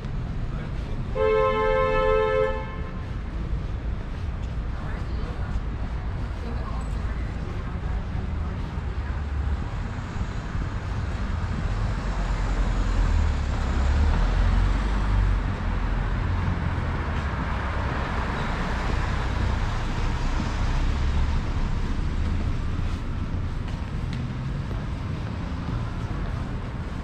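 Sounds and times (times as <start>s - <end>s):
cars passing on a street: 0.0s - 27.0s.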